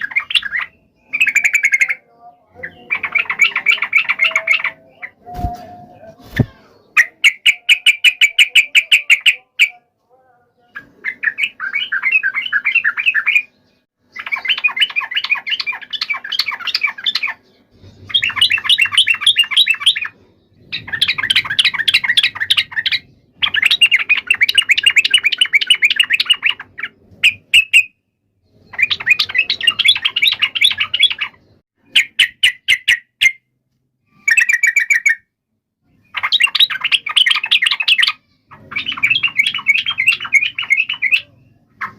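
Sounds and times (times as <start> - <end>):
bulbuls chattering song: 0.0 - 33.4, 34.2 - 35.2, 35.9 - 41.9.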